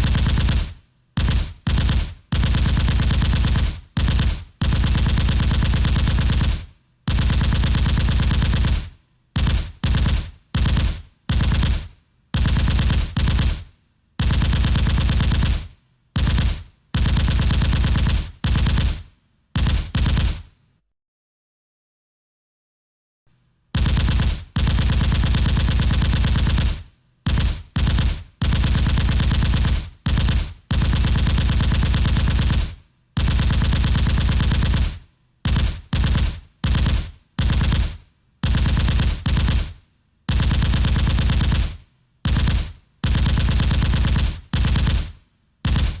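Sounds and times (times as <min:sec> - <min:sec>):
machine gun automatic fire: 0:00.0 - 0:20.5, 0:23.8 - 0:46.0.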